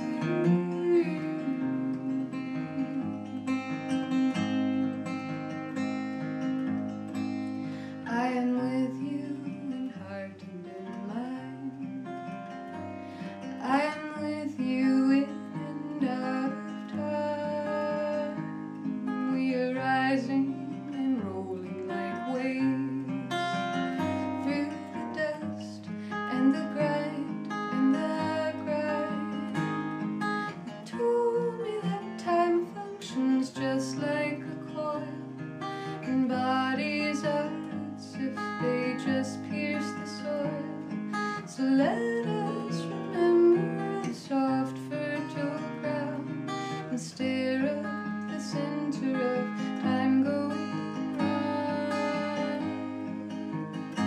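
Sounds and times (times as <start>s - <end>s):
acoustic guitar playing chords: 0.0s - 54.0s.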